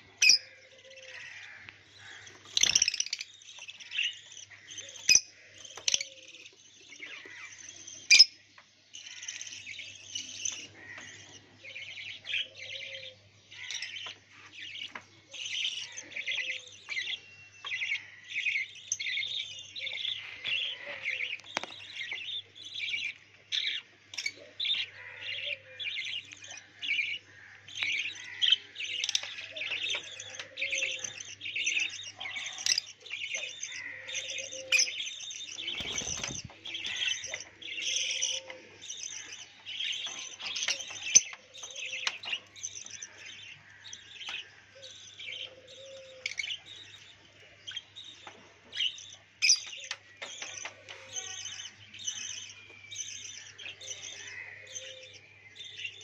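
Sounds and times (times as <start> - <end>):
parrots chirping and chattering: 0.0 - 56.0.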